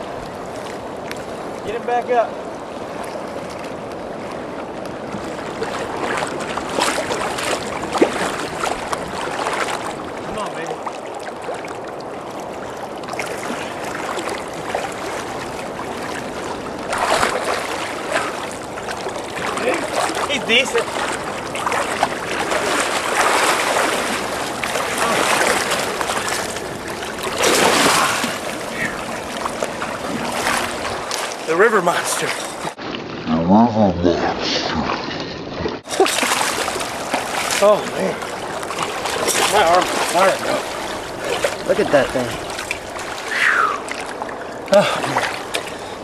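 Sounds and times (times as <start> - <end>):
rushing river water: 0.0 - 33.4, 34.7 - 46.0
wind: 0.0 - 46.0
fish splashing in water: 5.2 - 10.3, 10.9 - 31.5, 34.7 - 45.9.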